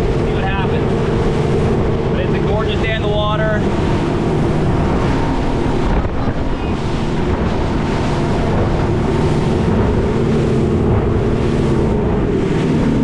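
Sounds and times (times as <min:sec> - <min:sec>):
boat engine running: 0:00.0 - 0:13.0
water rushing past hull: 0:00.0 - 0:13.0
wind buffeting microphone: 0:00.0 - 0:13.0.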